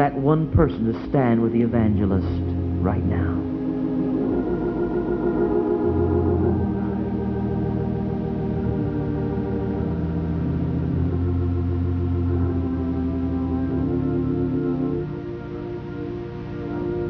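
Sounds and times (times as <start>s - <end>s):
organ playing slow chords: 0.0s - 17.0s.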